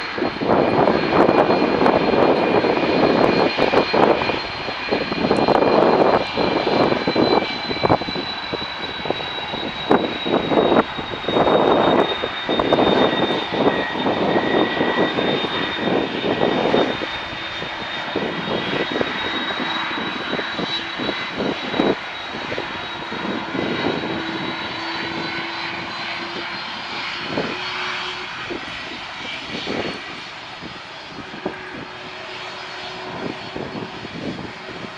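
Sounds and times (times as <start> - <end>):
jet airliner roar and whine: 0.0 - 34.9.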